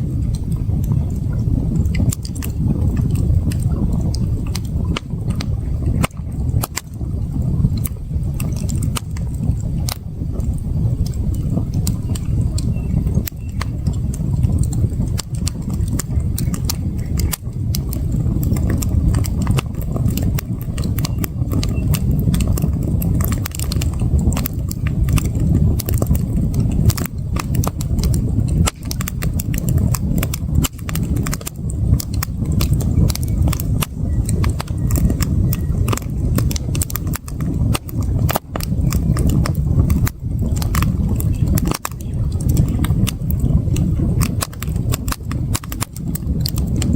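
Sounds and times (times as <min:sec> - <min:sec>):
campfire crackling: 0:00.0 - 0:46.9
low rumble: 0:00.0 - 0:46.9.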